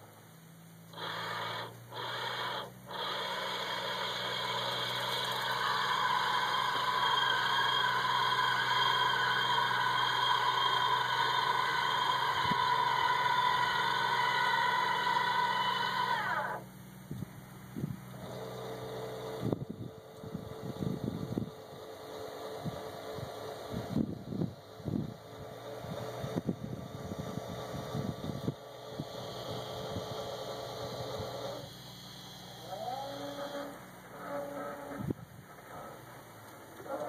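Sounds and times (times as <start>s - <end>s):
electric crane motor whining: 0.0s - 37.0s
low steady hum: 0.0s - 37.0s.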